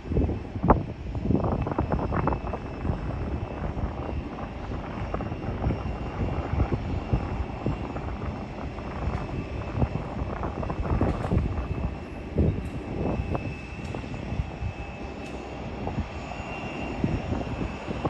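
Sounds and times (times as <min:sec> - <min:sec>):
aircraft engine whine: 0:00.0 - 0:18.0
wind buffeting microphone: 0:00.0 - 0:18.0.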